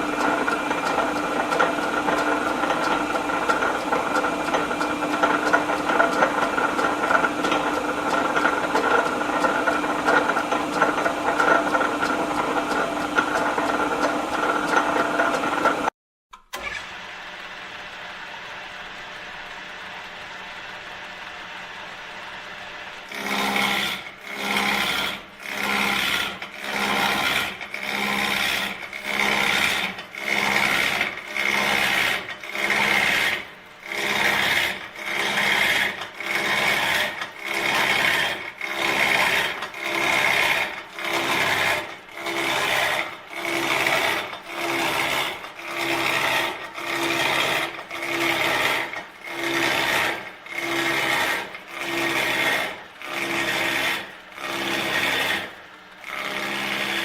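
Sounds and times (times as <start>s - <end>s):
metal lathe rasping strokes: 0.0s - 15.9s, 23.1s - 57.0s.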